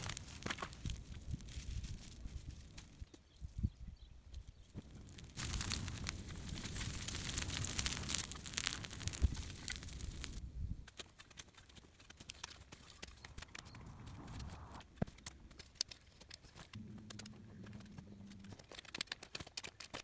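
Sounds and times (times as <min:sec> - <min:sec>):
fire crackling and popping: 0:00.0 - 0:03.3, 0:04.3 - 0:20.0.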